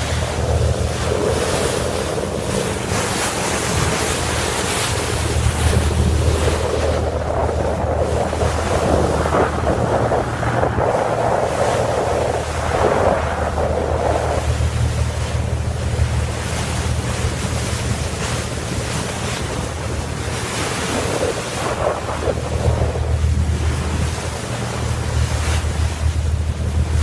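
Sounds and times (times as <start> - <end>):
constant low hum: 0.0 - 27.0
wind buffeting microphone: 0.0 - 27.0.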